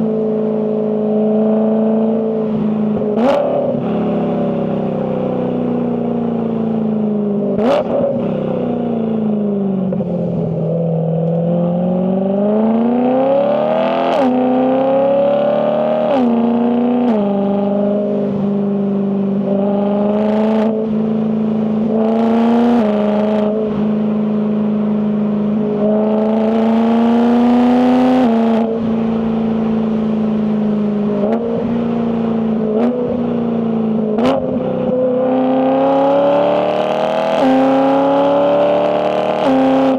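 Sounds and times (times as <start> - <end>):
car engine under load: 0.0 - 39.9.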